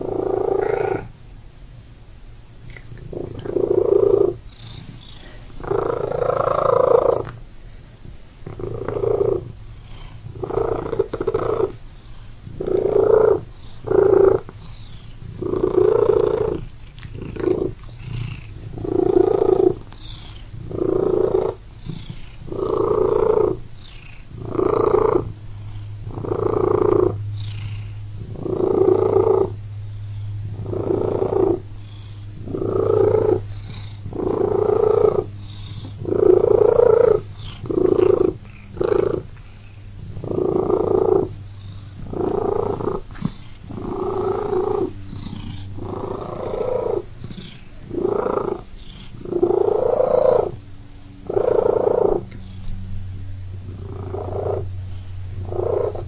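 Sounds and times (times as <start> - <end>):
cat purring: 0.0 - 1.2, 2.6 - 7.4, 8.4 - 56.0.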